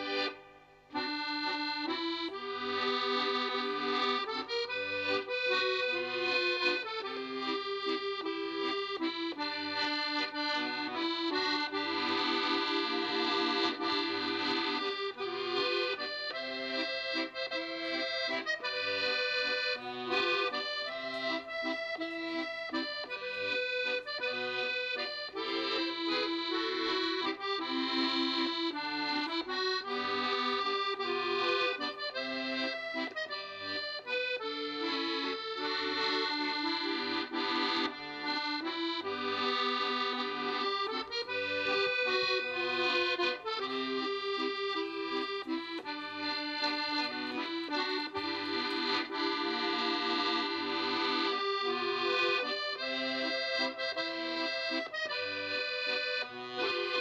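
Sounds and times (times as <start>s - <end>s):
accordion music: 0.0s - 57.0s.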